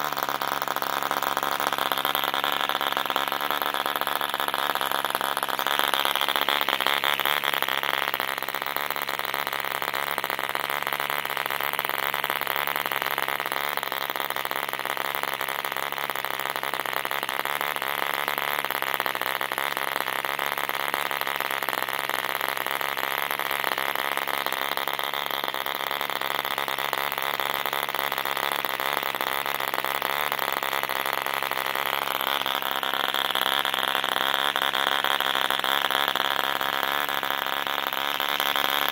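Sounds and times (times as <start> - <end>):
model aircraft engine running: 0.0 - 38.9.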